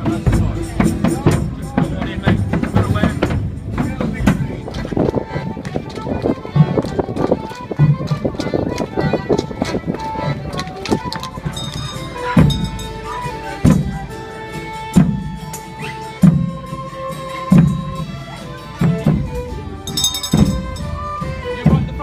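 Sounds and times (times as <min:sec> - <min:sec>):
drum beats: 0:00.0 - 0:22.0
fiddles playing folk tune: 0:00.0 - 0:22.0.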